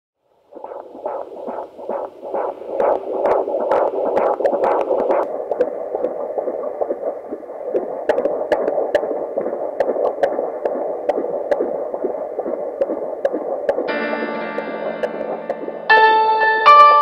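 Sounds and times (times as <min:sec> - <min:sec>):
fetal heartbeat on doppler monitor: 0:00.4 - 0:16.2.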